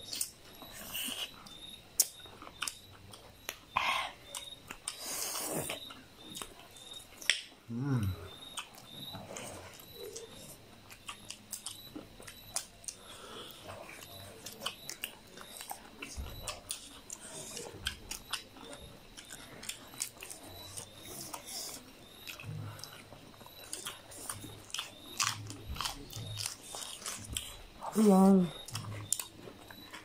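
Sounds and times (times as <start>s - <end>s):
people chewing and lip smacking: 0.0s - 30.0s.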